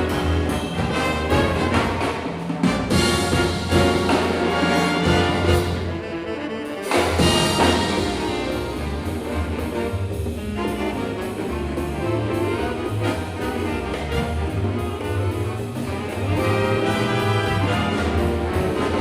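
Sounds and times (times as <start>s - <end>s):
jazz big band playing: 0.0s - 19.0s.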